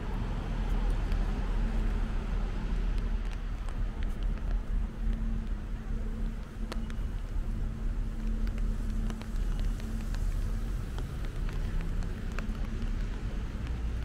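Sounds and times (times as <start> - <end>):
rain ticking: 0.0 - 14.0
traffic rumble: 0.0 - 14.0.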